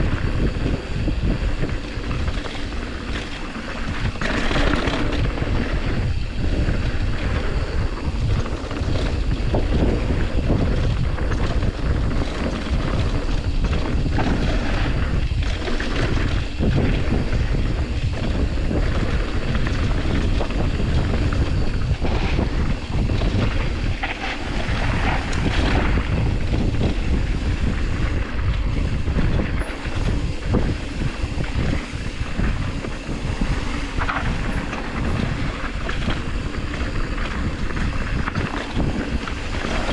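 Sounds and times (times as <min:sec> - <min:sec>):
bike knocks and rattles: 0:00.0 - 0:39.9
bike rolling on dirt trail: 0:00.0 - 0:39.9
wind buffeting microphone: 0:00.0 - 0:39.9.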